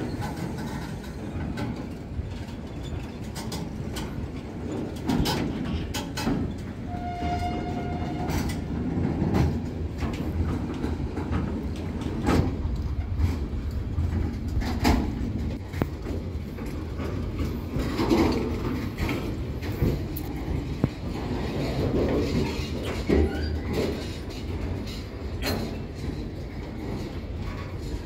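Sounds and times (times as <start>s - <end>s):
clacks over rail joints: 0.0s - 28.0s
train wheels rumbling on rails: 0.0s - 28.0s.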